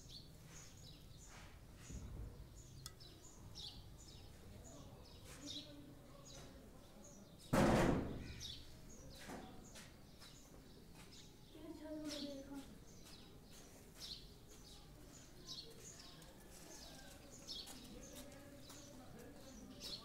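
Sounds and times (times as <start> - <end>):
small birds chirping: 0.0 - 7.5, 8.1 - 20.0.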